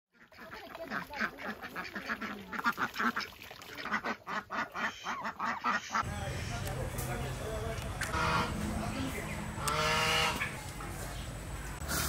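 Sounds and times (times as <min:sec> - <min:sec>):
ducks quacking: 0:00.2 - 0:10.9.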